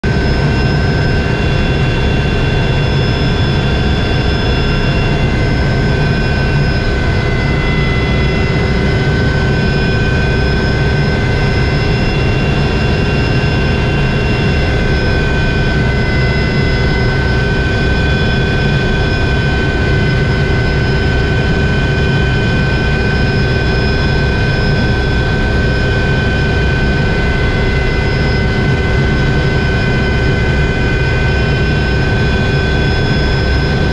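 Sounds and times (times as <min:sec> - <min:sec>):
helicopter engine and rotor drone: 0:00.0 - 0:33.9
high whine: 0:00.0 - 0:33.9.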